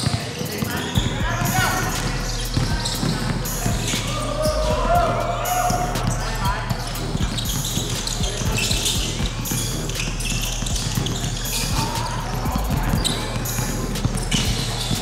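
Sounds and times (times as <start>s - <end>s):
players' voices: 0.0s - 15.0s.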